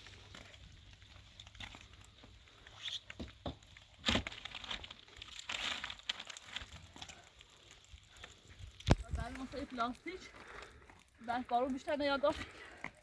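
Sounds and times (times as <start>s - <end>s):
plastic sheeting crinkling: 0.0s - 12.8s.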